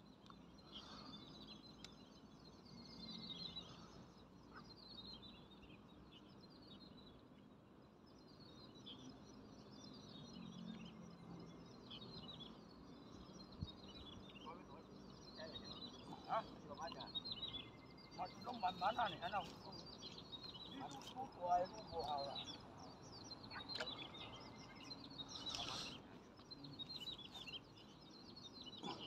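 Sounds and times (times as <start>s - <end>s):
birds chirping and trilling: 0.0s - 29.0s
low outdoor hum: 0.0s - 29.0s.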